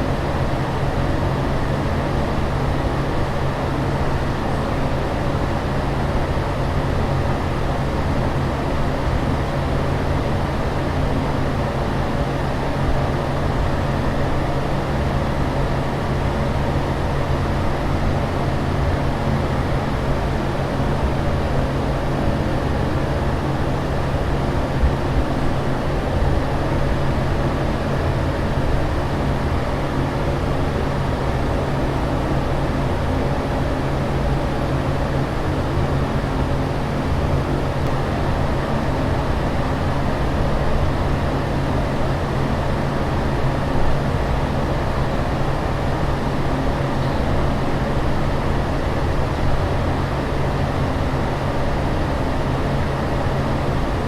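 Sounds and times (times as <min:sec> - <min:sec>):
aircraft cabin drone: 0:00.0 - 0:54.0
steady low hum: 0:00.0 - 0:54.0.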